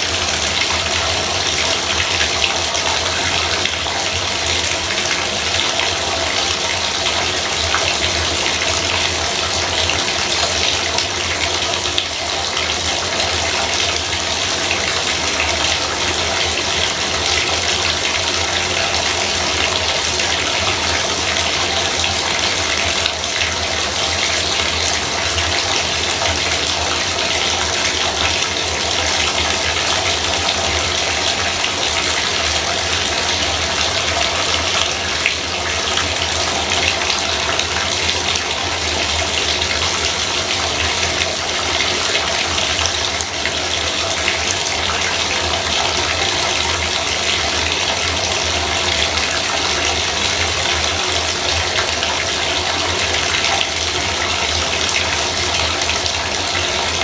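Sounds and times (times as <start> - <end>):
faucet water pouring: 0.0 - 57.0.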